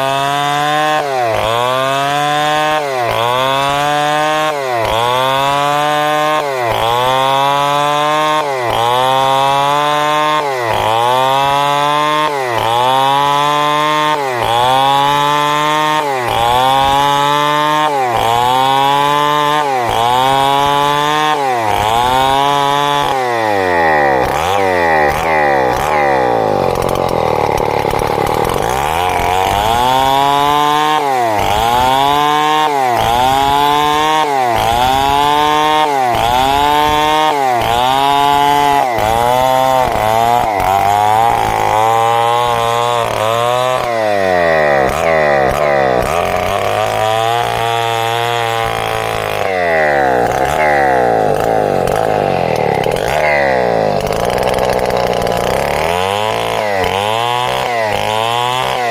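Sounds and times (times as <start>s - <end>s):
chainsaw cutting timber: 0.0s - 58.9s.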